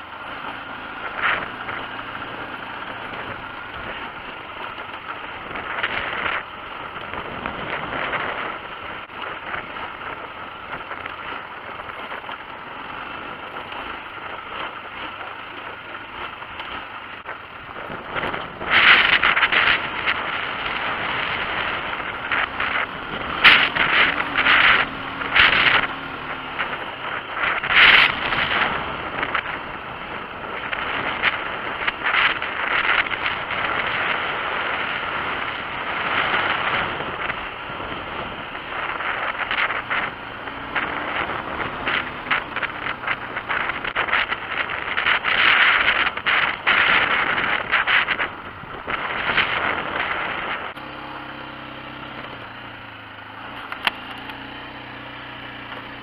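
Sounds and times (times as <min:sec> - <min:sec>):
faint motorcycle engine: 0:00.0 - 0:56.0
wind buffeting microphone: 0:00.0 - 0:56.0.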